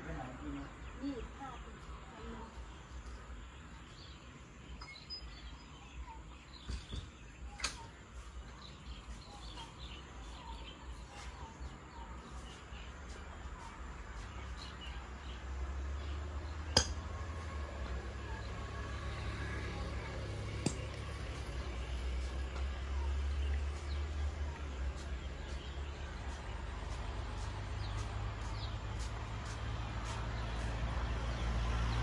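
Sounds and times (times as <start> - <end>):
birds chirping faintly: 0.0 - 32.0.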